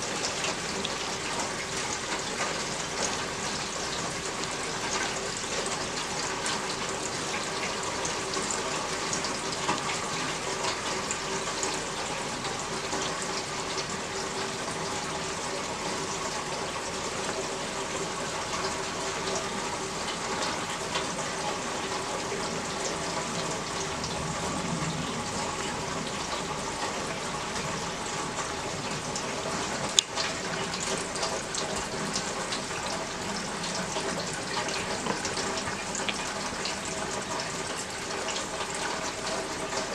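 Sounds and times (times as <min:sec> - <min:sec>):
running splashing water: 0:00.0 - 0:39.9
steady rain falling: 0:00.0 - 0:39.9.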